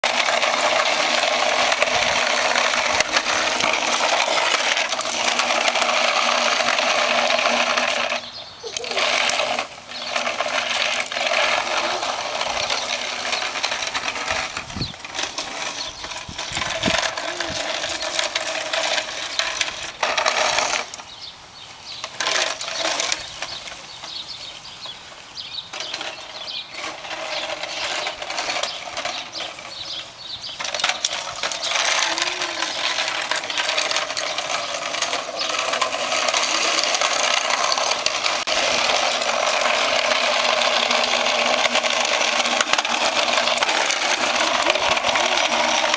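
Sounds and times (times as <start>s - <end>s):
toy truck wheels rattling on concrete: 0.0s - 45.9s.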